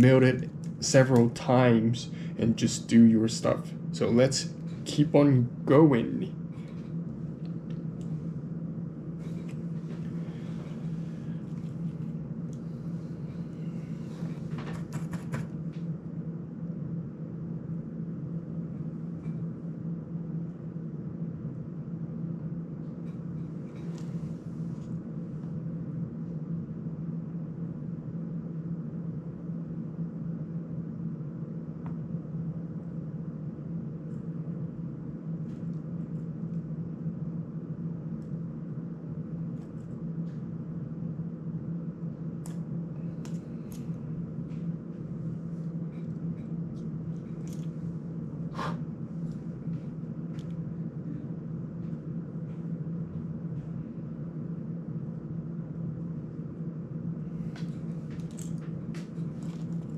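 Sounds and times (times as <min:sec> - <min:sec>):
motor hum: 0:00.0 - 0:59.9.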